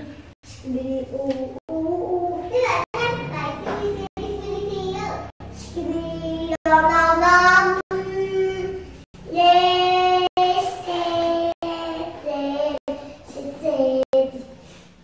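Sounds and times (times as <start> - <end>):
child singing: 0.6 - 14.5.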